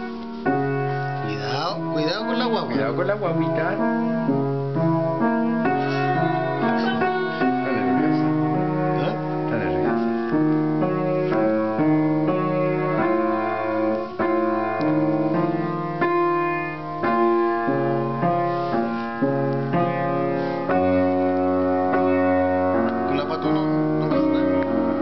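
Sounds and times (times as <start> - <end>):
piano chords: 0.0 - 25.0.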